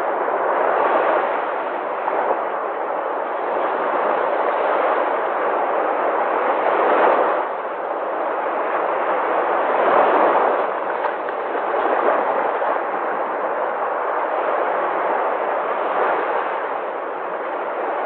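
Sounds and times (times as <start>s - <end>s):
sea waves on shore: 0.0s - 18.0s.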